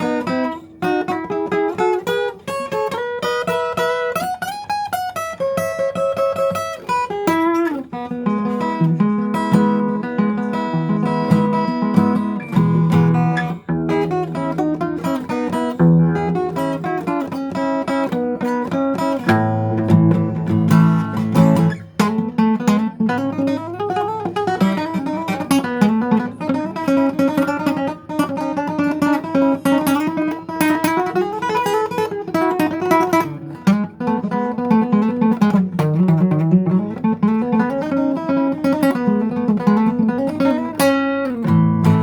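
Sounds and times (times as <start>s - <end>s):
guitar playing picked runs: 0.0s - 42.0s.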